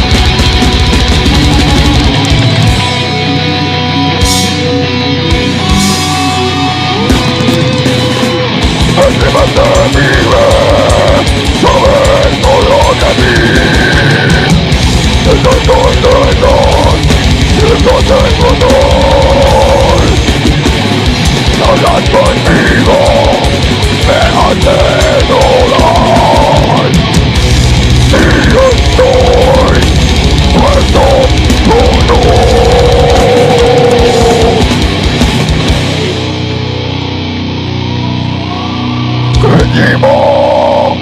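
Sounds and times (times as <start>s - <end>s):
fast driving drums: 0.0s - 37.4s, 38.6s - 41.0s
bending lead guitar line: 0.0s - 41.0s
heavy metal band playing live: 0.0s - 41.0s.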